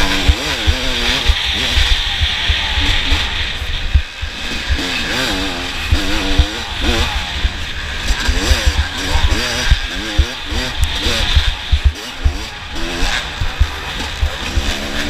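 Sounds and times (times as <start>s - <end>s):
low thumps: 0.0s - 14.8s
motorcycle engines revving: 0.0s - 15.0s.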